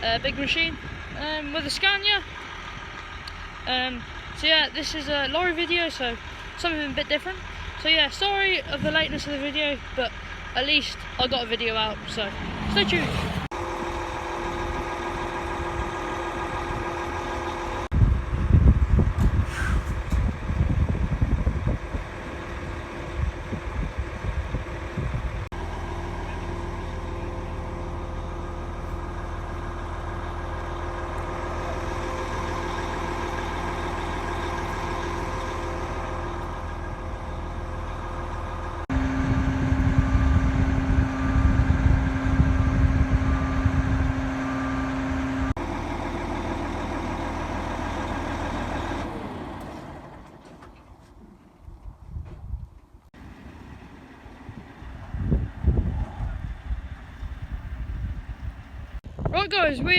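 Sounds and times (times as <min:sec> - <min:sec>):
lorry engine running: 0:00.0 - 0:52.0, 0:53.1 - 0:59.7.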